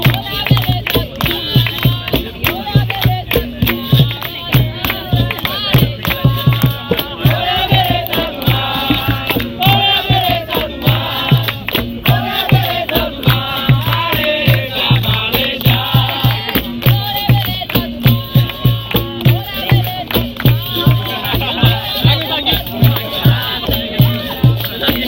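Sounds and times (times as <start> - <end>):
group singing chant-like phrases: 0.0 - 25.0
hand drum beats and percussion: 0.0 - 25.0.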